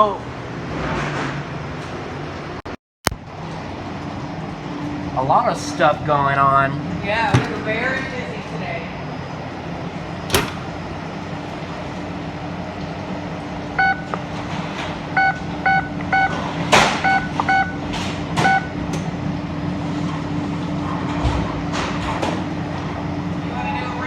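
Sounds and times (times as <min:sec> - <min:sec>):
kitchen machinery hum: 0:03.2 - 0:24.0.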